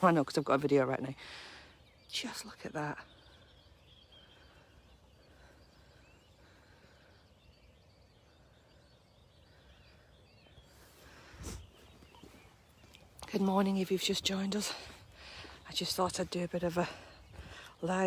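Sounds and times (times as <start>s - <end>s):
distant birds chirping: 0.0s - 18.0s.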